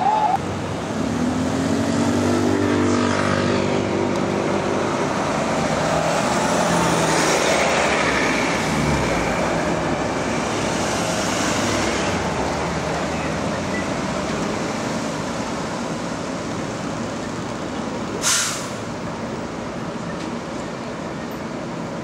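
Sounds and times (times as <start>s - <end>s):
vehicles going by: 0.0s - 22.0s
bus engine pulling away: 0.3s - 22.0s.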